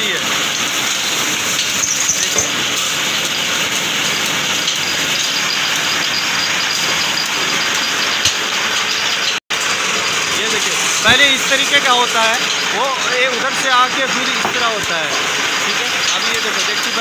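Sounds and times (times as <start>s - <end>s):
metal-spinning lathe whirring: 0.0s - 17.0s.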